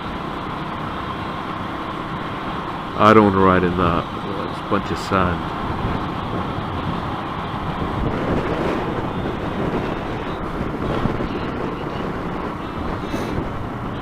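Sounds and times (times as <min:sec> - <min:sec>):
motorcycle engine running: 0:00.0 - 0:14.0
wind buffeting microphone: 0:00.0 - 0:14.0.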